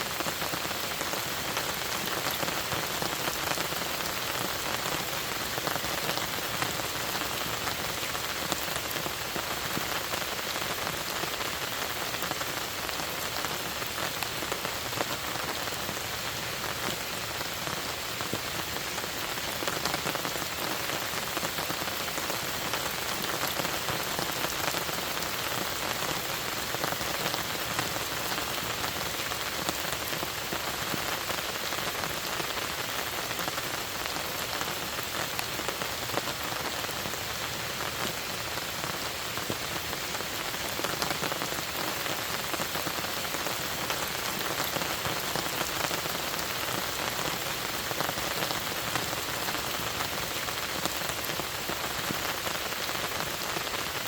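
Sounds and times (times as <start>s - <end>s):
rain falling on a lake: 0.0s - 54.0s.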